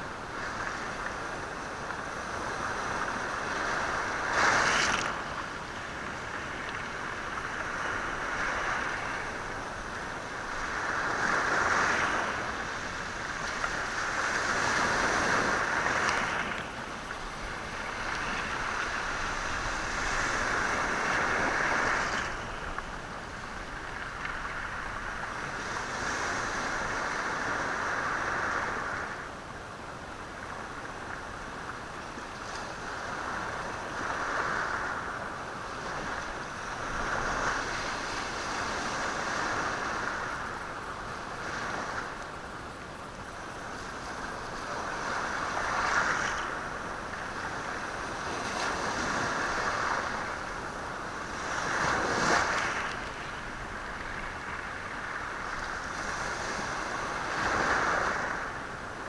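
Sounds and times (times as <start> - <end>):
waves washing onto stony shore: 0.0 - 59.0.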